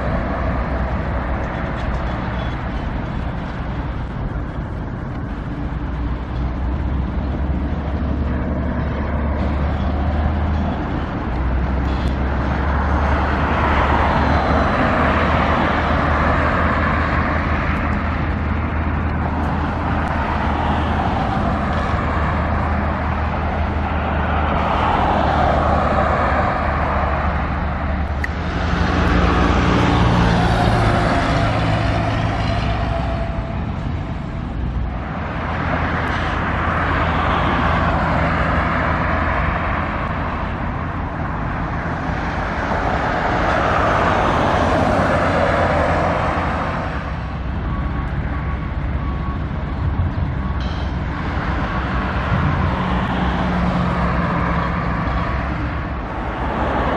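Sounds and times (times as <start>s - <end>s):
road traffic passing: 0.0s - 56.9s
vehicle with deep engine droning: 0.0s - 56.9s.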